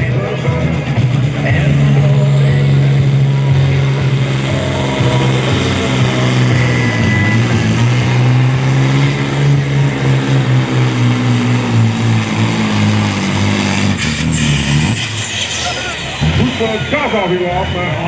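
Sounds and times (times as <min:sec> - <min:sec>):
diesel engine heavy drone: 0:00.0 - 0:18.0
turbo whine: 0:00.0 - 0:18.0.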